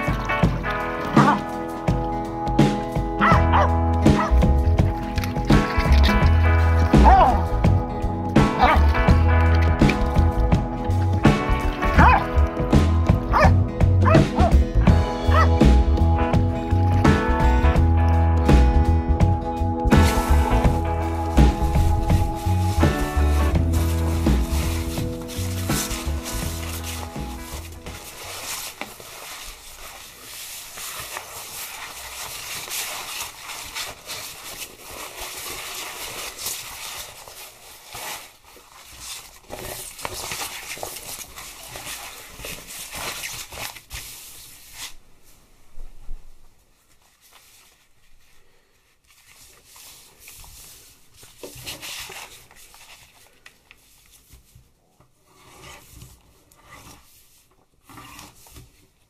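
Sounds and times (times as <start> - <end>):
plastic sheeting crinkling: 0.0 - 15.5, 19.8 - 59.0.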